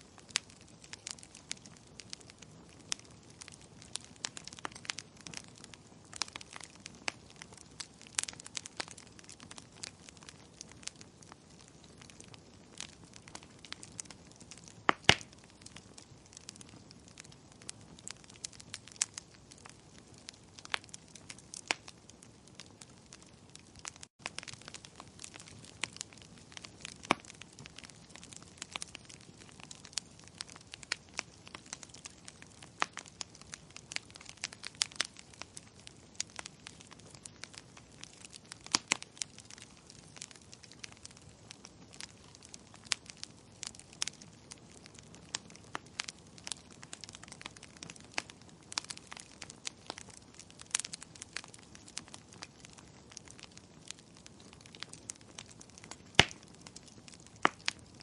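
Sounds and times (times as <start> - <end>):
soft hiss of fire: 0.0 - 58.0
wood fire crackling: 0.0 - 58.0.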